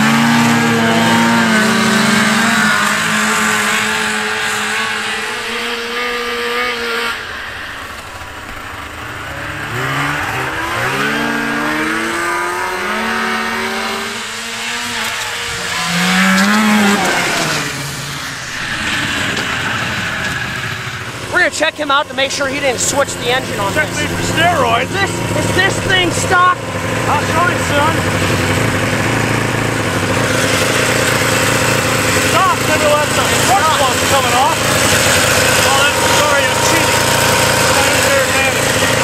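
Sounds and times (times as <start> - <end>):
snowmobile engines revving: 0.0 - 39.0.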